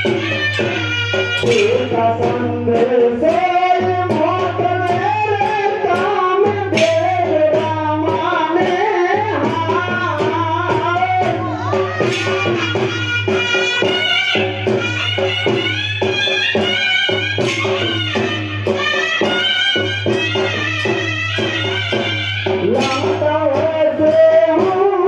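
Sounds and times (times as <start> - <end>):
drum and percussion: 0.0 - 25.0.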